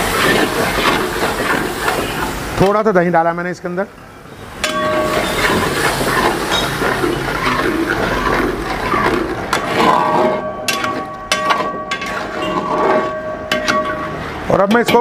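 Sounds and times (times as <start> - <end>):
metal spatula scraping pot: 0.0 - 2.4, 4.6 - 15.0
food sizzling and bubbling in pot: 0.0 - 3.2, 4.1 - 15.0.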